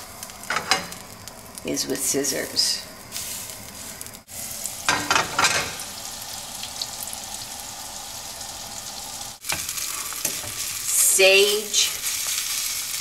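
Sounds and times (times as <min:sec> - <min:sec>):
leaves sizzling in butter: 0:00.0 - 0:13.0.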